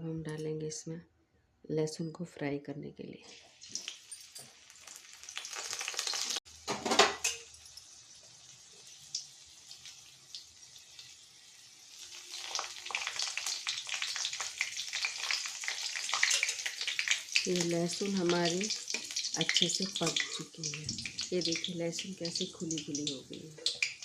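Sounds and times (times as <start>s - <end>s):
garlic sizzling in hot oil: 3.3s - 24.0s.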